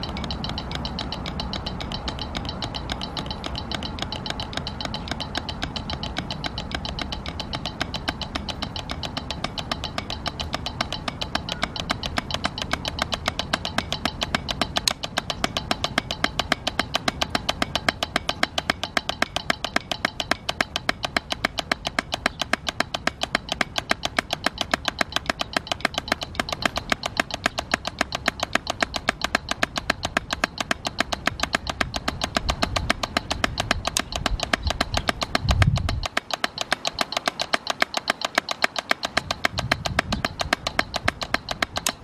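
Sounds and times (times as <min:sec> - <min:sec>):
drumsticks on practice pad: 0:00.0 - 0:42.0.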